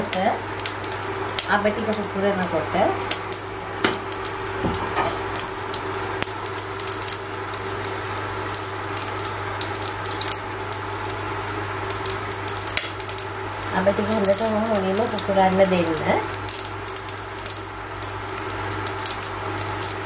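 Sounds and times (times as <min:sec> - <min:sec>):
seeds popping in hot oil: 0:00.0 - 0:20.0
steady low hum: 0:00.0 - 0:20.0.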